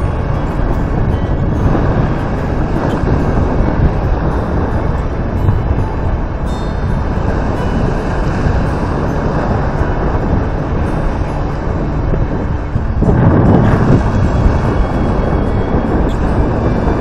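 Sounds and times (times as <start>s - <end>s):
choppy water: 0.0s - 17.0s
wind buffeting microphone: 0.0s - 17.0s.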